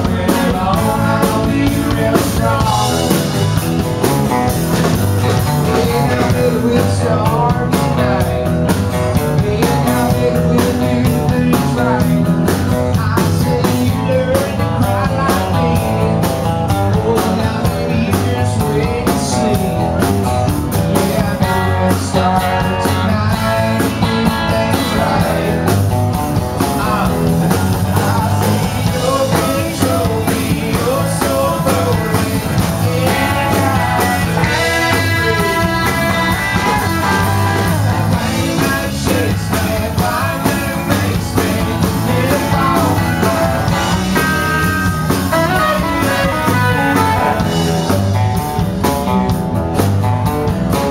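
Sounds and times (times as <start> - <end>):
acoustic guitar: 0.0 - 50.9
drum kit: 0.0 - 50.9
electric guitars: 0.0 - 50.9
live country rock band: 0.0 - 50.9.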